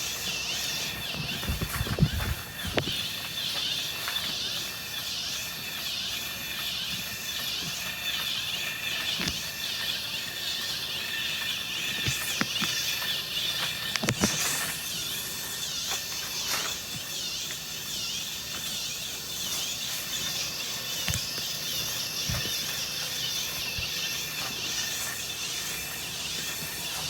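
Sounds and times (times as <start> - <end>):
toy bat high-pitched chirp: 0.0 - 27.0.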